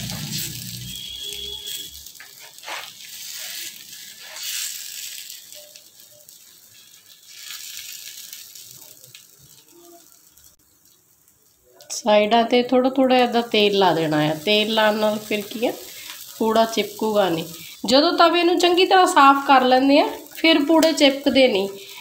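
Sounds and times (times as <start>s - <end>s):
batter sizzling in oil: 0.0s - 22.0s.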